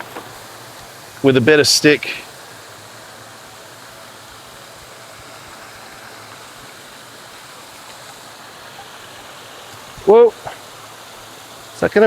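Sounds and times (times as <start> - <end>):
river water flowing fast: 0.0 - 12.0.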